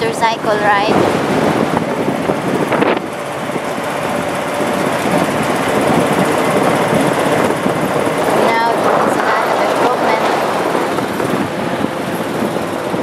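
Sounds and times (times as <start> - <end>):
vehicle engine and road noise: 0.0 - 13.0
wind buffeting microphone: 0.0 - 13.0.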